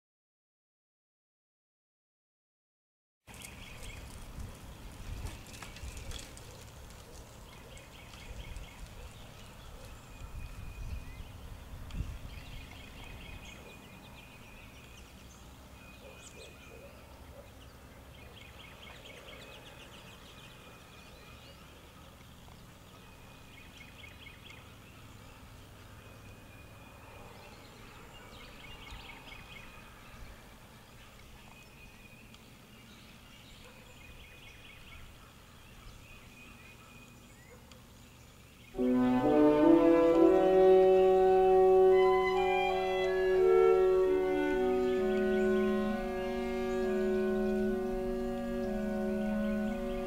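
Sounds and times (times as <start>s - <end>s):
faint birdsong trill: 3.3s - 50.0s.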